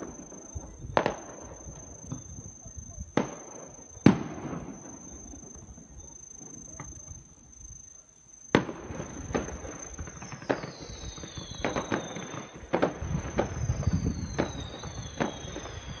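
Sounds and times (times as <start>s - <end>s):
fireworks bangs and pops: 0.0s - 7.2s, 8.5s - 16.0s
fireworks falling whistles: 0.0s - 7.7s, 8.5s - 16.0s.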